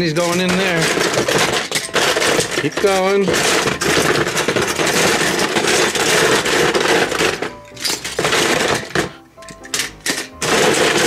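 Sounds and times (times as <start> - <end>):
toy cars clattering together: 0.0 - 11.0.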